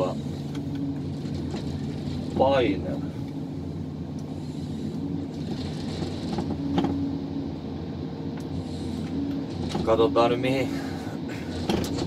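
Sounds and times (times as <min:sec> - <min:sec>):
harvester engine and hydraulics: 0:00.0 - 0:12.0.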